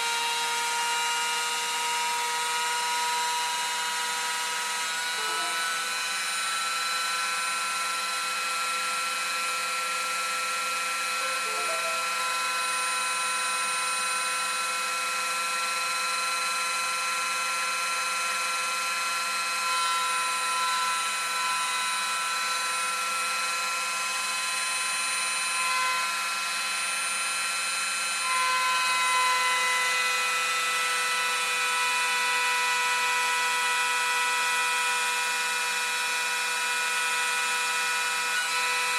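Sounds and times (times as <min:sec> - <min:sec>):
milling machine whine: 0:00.0 - 0:38.9.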